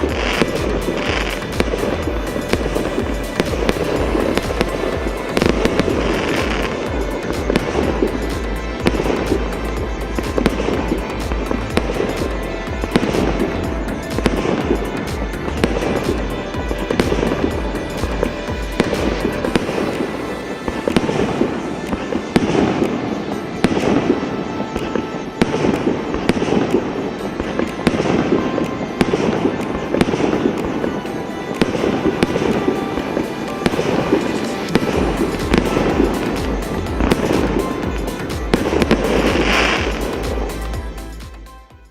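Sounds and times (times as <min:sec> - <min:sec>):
fireworks launching and bursting: 0:00.0 - 0:41.9.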